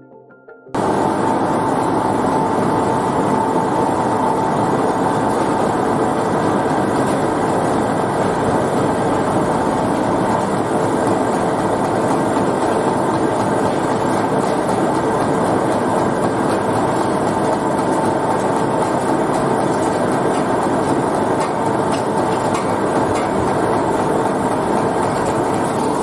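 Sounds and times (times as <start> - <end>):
machinery running steadily: 0.8 - 26.0.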